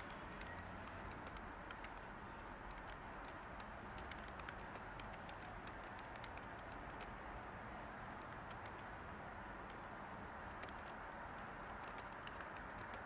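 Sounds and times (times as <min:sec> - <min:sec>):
computer keyboard typing: 0:00.0 - 0:07.1, 0:08.1 - 0:08.9, 0:10.4 - 0:13.0
steady white-noise hiss: 0:00.0 - 0:13.0.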